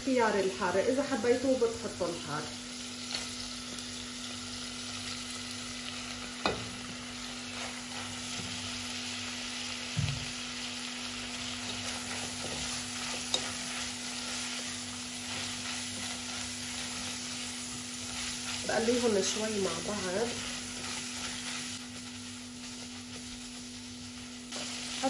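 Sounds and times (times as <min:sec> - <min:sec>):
vegetables and meat sizzling: 0:00.0 - 0:25.0.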